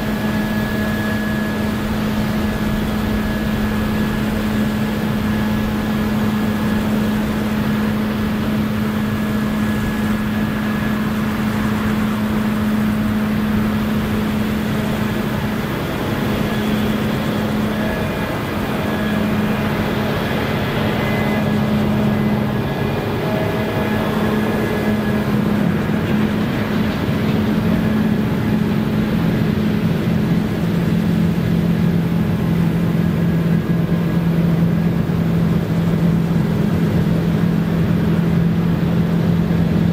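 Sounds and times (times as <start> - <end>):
engine hum: 0.0 - 39.9.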